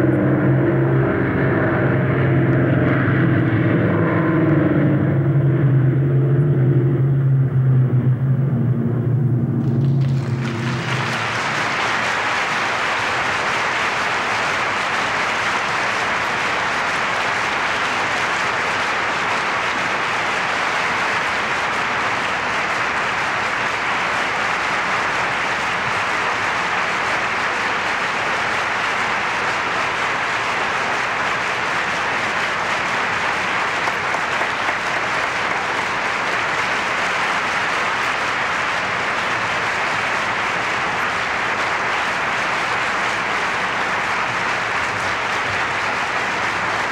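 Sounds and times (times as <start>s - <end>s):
audience applauding: 0.0s - 4.4s, 9.5s - 46.9s.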